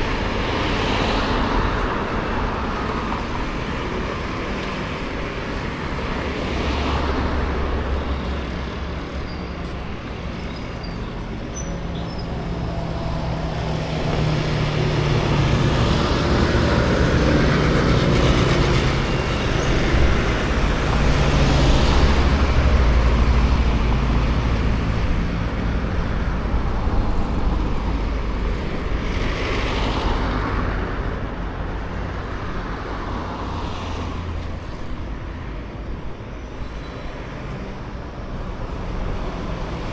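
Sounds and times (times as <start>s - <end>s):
cars going by: 0.0s - 39.9s
heavy vehicle engine hum: 0.0s - 39.9s
road traffic passing: 0.0s - 39.9s.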